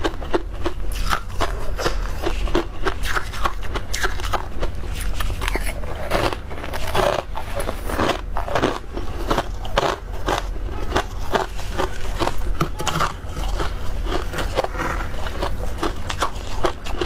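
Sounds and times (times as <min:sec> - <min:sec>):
person chewing crunchy frost: 0:00.0 - 0:17.0
steady low hum: 0:00.0 - 0:17.0.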